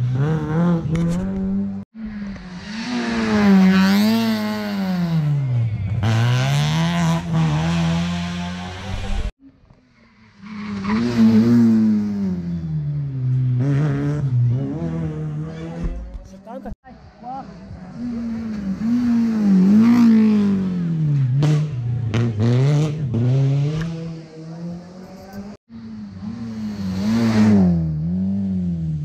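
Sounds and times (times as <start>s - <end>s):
rally car engine revving: 0.0s - 9.3s, 10.4s - 16.4s, 17.5s - 29.0s.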